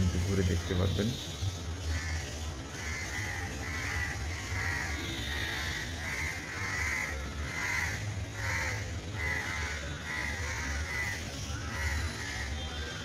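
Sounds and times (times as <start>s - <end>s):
crows cawing: 1.8s - 13.0s.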